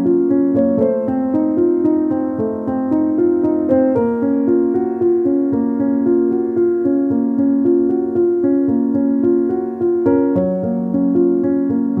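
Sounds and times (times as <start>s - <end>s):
gentle piano-like melody: 0.0s - 12.0s.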